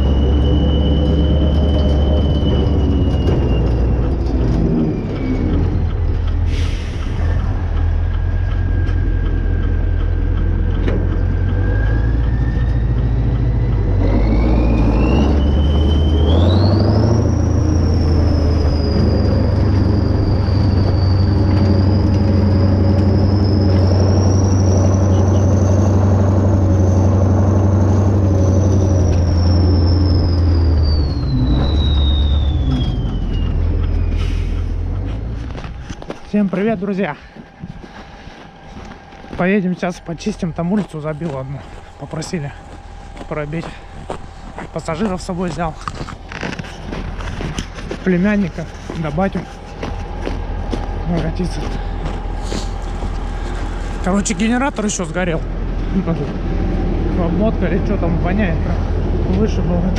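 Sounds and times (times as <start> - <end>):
high engine whine: 0.0 - 59.9
tractor diesel engine running: 0.0 - 59.9.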